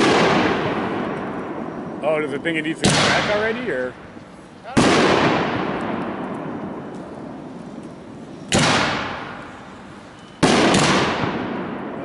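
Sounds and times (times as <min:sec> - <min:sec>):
firework shells banging: 0:00.0 - 0:12.0
rolling echo: 0:00.0 - 0:12.0.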